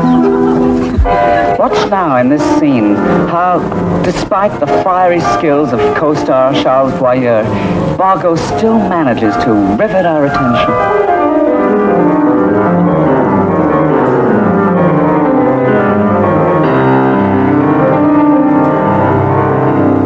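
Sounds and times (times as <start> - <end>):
orchestral music with piano: 0.0 - 20.0.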